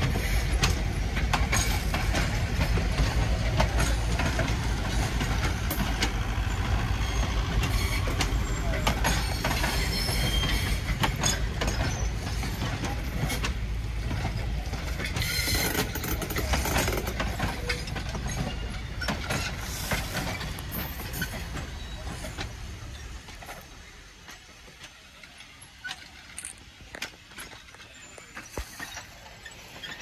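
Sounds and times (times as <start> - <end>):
train coaches rumbling: 0.0 - 30.0
wheels clicking over rail joints: 0.0 - 30.0.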